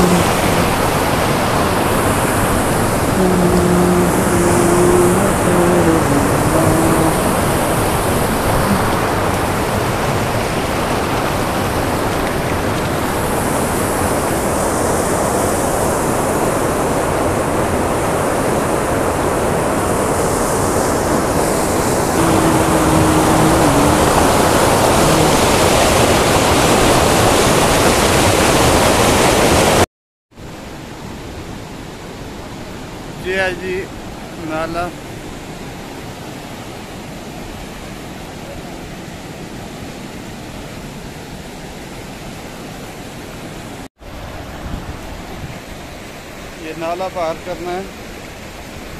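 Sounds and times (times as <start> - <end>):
waterfall rushing: 0.0 - 29.9, 30.6 - 48.9.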